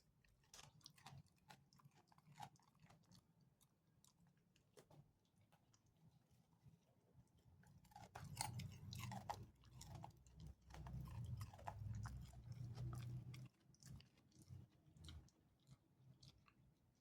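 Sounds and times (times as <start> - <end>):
dog crunching carrot: 0.0 - 5.0, 7.6 - 17.0.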